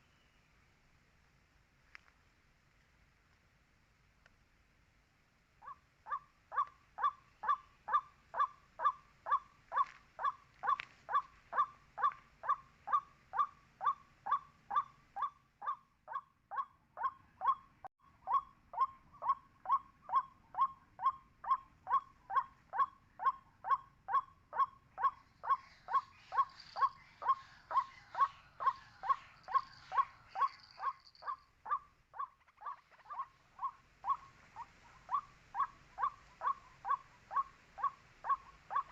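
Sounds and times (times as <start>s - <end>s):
bird calling kwak: 5.6s - 38.9s.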